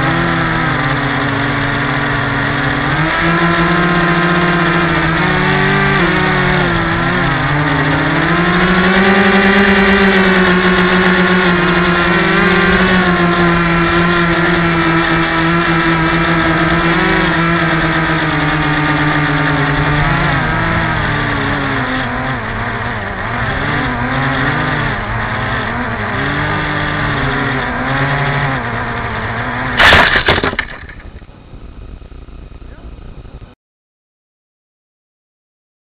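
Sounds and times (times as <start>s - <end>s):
model plane motor buzzing: 0.0s - 33.4s.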